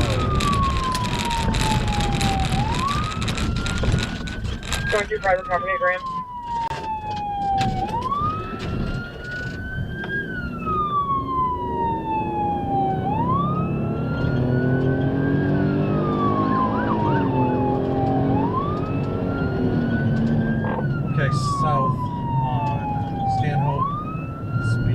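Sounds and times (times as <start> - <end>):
vehicle engine: 0.0 - 5.5, 7.7 - 24.9
police siren wailing: 0.0 - 24.9
road noise: 0.0 - 24.9.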